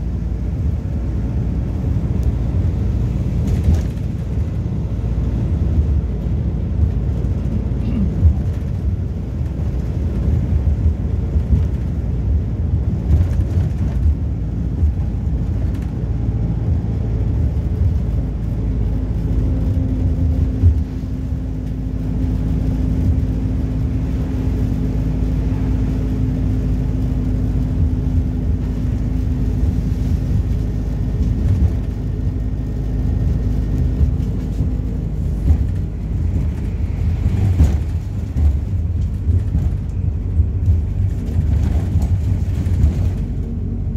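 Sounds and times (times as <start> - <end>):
bus engine and road rumble: 0.0 - 43.9.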